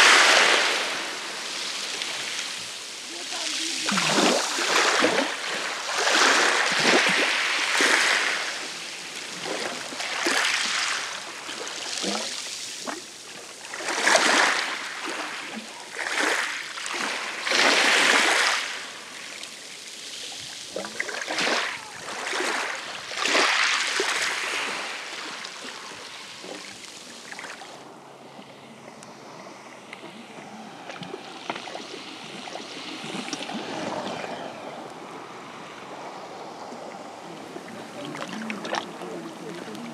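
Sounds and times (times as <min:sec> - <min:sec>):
waves washing over pebbles: 0:00.0 - 0:28.2, 0:28.8 - 0:39.9
calm water washing: 0:00.0 - 0:39.9.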